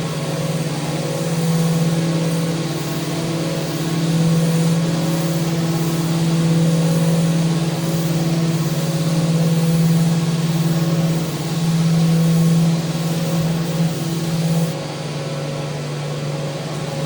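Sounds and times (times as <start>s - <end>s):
power sander motor hum: 0.0s - 14.8s
sanding hiss: 0.0s - 14.8s.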